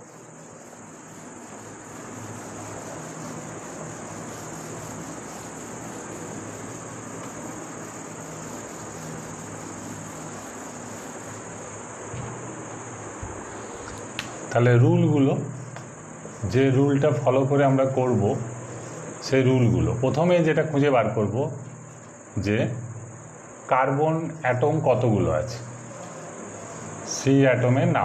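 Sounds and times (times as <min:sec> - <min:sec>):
background hiss: 0:00.0 - 0:28.0
crickets chirring: 0:00.0 - 0:28.0.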